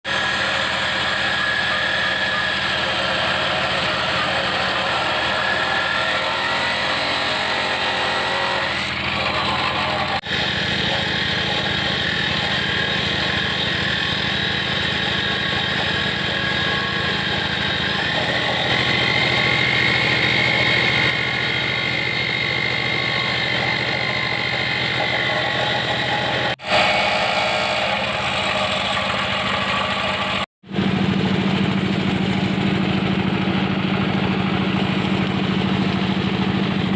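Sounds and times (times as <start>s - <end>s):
electric jigsaw cutting metal pipe: 0.0s - 30.5s.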